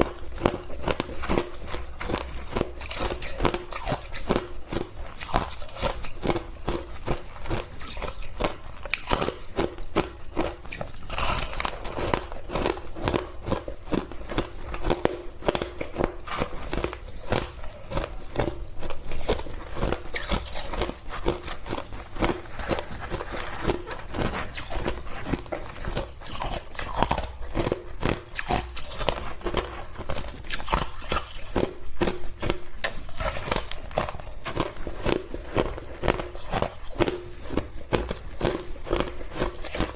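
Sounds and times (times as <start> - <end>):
person chewing shaved ice: 0.0 - 39.9.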